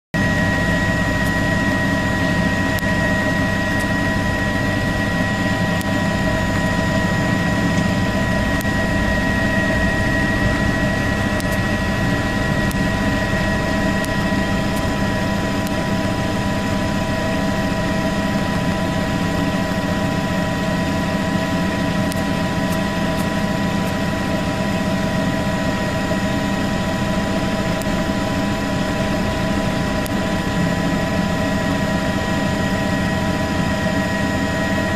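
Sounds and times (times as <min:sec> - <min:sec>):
engine running with high whine: 0:00.2 - 0:34.9.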